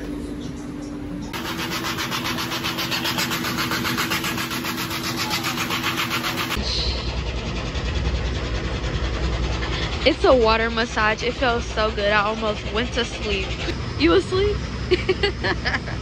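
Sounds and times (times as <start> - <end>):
pump motor hum: 1.3 - 16.0.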